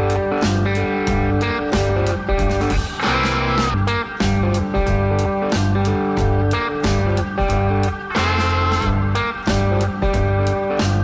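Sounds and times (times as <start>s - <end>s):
blues-rock music: 0.0s - 11.0s.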